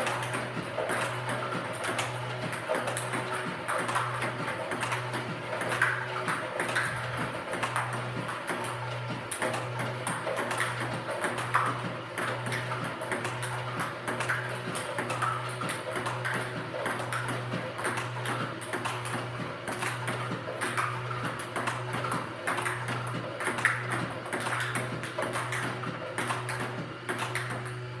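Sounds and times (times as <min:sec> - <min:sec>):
table tennis ball clicks: 0:00.0 - 0:27.8
steady low hum: 0:00.0 - 0:28.0.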